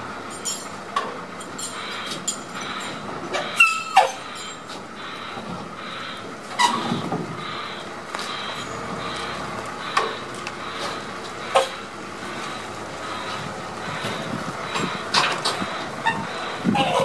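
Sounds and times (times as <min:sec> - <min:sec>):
crane engine running: 0:00.0 - 0:17.0.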